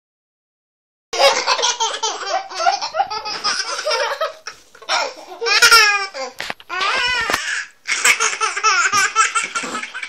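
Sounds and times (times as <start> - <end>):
child laughing: 1.2 - 10.0.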